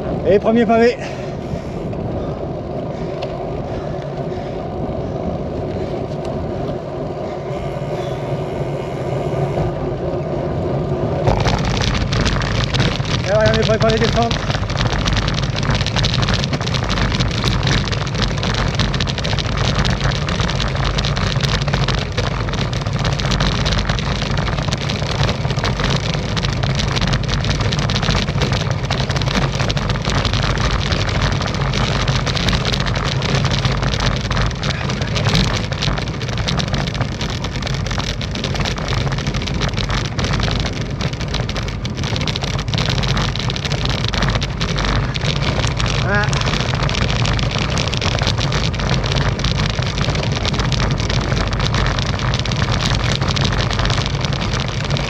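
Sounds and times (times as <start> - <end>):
bike rattling over cobblestones: 0.0 - 55.0.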